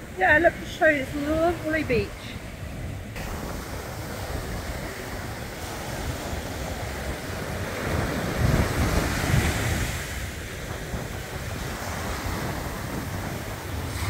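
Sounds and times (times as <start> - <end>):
sea waves breaking on beach: 0.0 - 14.0
wind buffeting microphone: 0.0 - 14.0.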